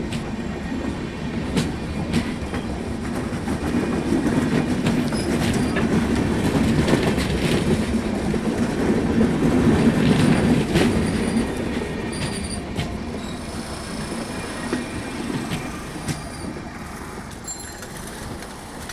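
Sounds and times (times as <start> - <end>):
train rumble: 0.0 - 18.9
wheels clattering over rail joints: 1.6 - 18.9.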